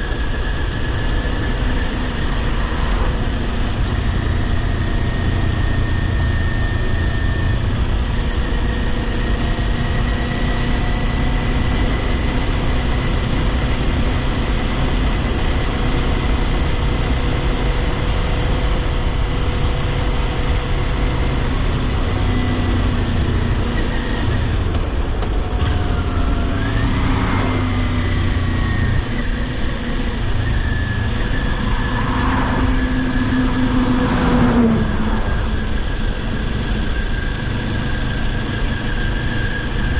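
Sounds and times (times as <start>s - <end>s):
constant low rush: 0.0s - 39.9s
motorcycle engine cruising: 0.0s - 39.9s.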